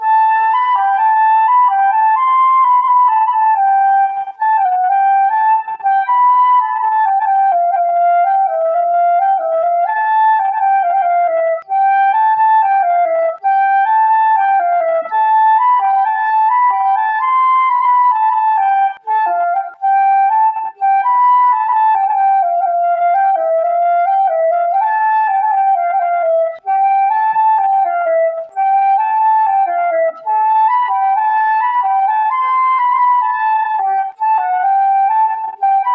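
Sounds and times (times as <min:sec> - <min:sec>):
solo flute melody: 0:00.0 - 0:35.9.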